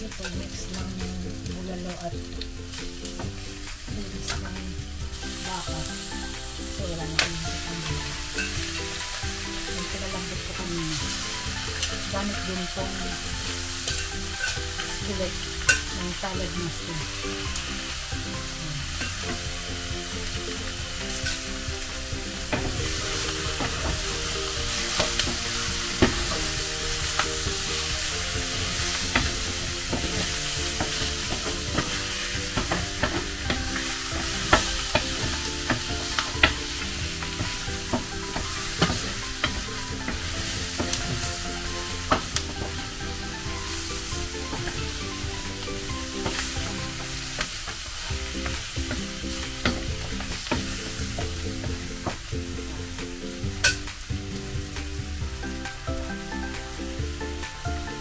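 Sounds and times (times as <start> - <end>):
wooden spoon stirring: 0.0 - 52.3
meat and garlic sizzling in a skillet: 0.0 - 58.0.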